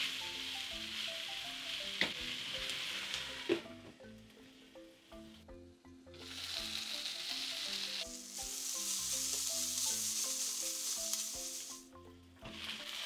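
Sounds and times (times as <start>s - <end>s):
vegetables sizzling in oil: 0.0s - 3.8s, 6.2s - 13.0s
plucked background music: 0.0s - 13.0s.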